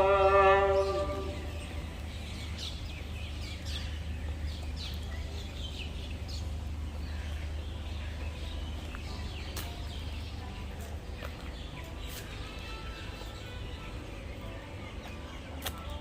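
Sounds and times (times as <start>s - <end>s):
small birds chirping: 0.7s - 16.0s.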